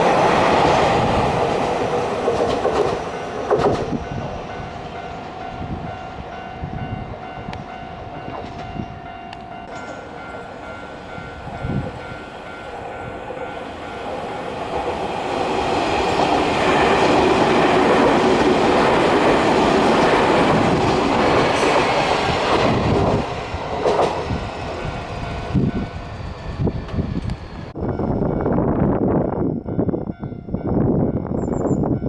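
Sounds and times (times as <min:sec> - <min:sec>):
electric train rolling past: 0:00.0 - 0:32.0
crossing warning bell: 0:03.0 - 0:28.7.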